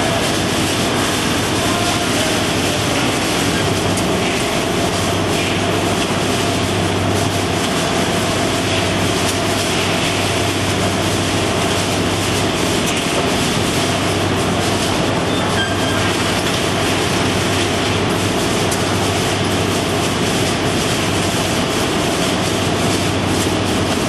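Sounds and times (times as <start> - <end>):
conveyor low hum: 0.0 - 24.0
roller conveyor rattling: 0.0 - 24.0.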